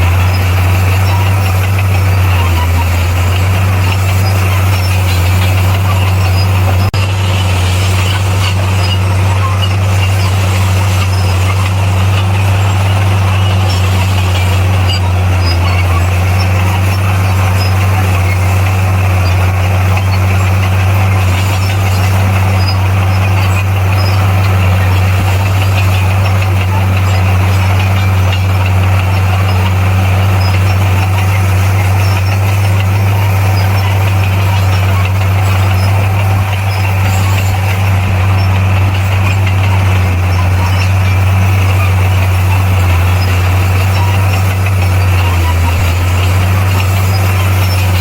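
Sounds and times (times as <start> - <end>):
bulldozer diesel engine drone: 0.0 - 48.0.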